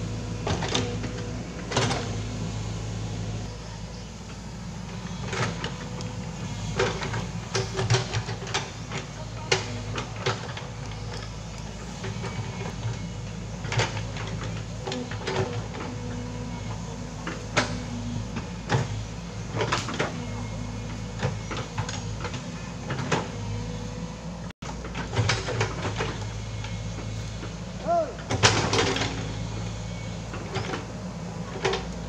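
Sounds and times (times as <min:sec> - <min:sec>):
excavator knocks and clanks: 0:00.0 - 0:23.9, 0:24.6 - 0:32.0
excavator diesel engine running: 0:00.0 - 0:32.0.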